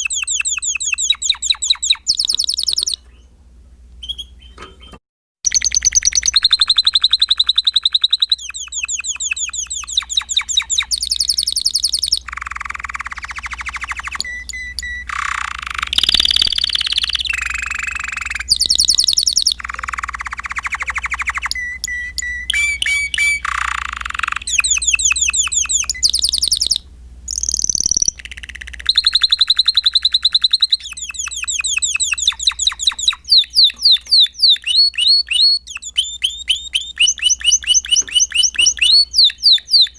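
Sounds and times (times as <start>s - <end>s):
canary singing trills: 0.0s - 3.4s, 4.0s - 39.9s.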